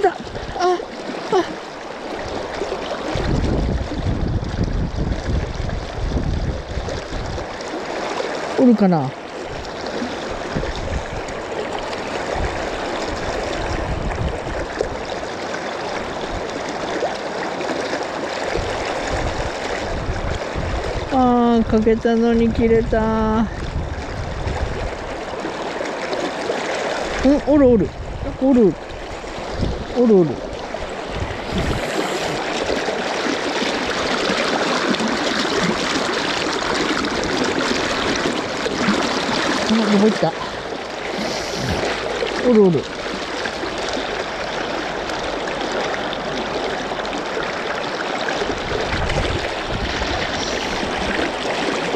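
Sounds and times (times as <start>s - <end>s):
river current rushing: 0.0s - 21.2s, 23.5s - 51.9s.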